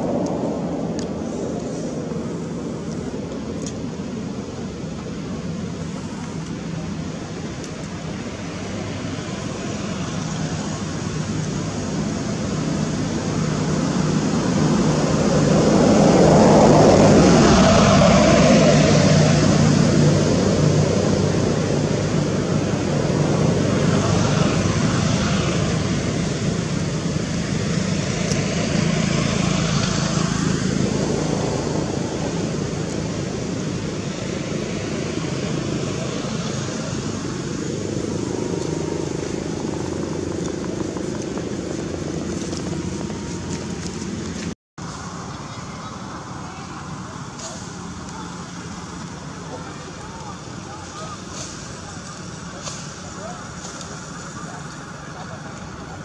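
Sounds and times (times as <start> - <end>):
vehicles going by: 0.0 - 56.0.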